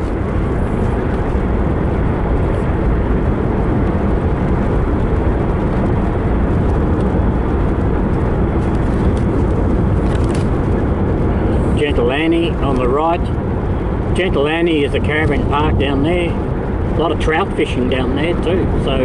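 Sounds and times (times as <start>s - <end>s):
car engine running: 0.0s - 19.0s
tyre noise on road: 0.0s - 19.0s.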